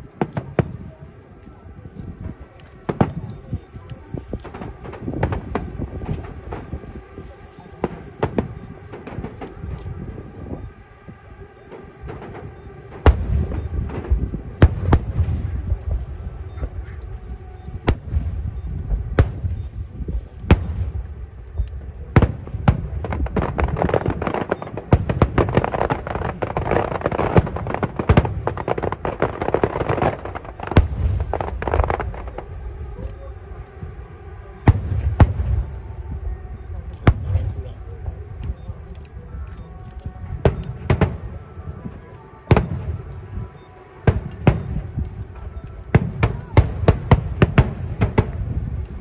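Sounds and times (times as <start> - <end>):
continuous low rumble: 0.0 - 49.0
firework crackling: 0.0 - 49.0.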